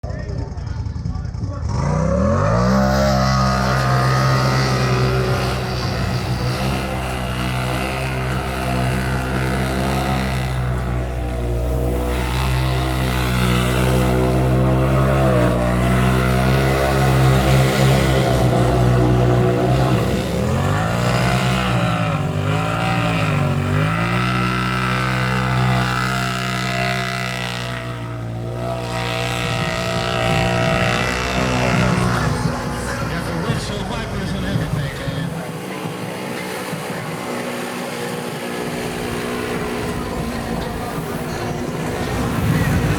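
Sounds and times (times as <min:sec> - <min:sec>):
utility vehicle engine revving: 0:00.0 - 0:42.9.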